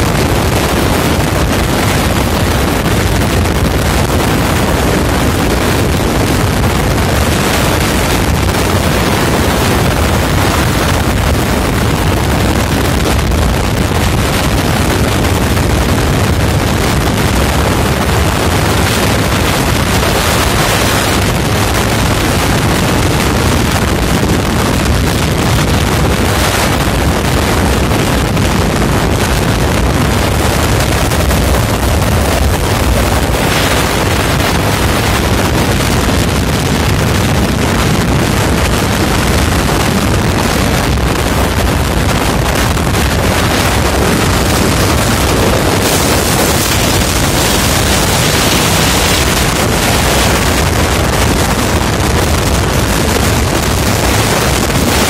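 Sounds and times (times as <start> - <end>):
vehicle road and engine rumble: 0.0 - 55.0
wind buffeting microphone: 0.0 - 55.0.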